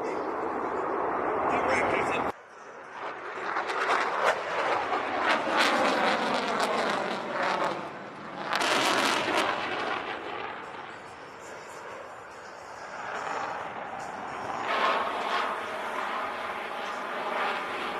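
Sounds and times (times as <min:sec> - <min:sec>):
jet aircraft passing: 0:00.0 - 0:17.9.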